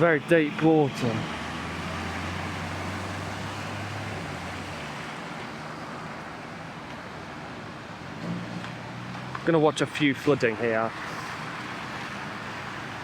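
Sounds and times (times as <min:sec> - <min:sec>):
water surging and sloshing: 0:00.0 - 0:13.0.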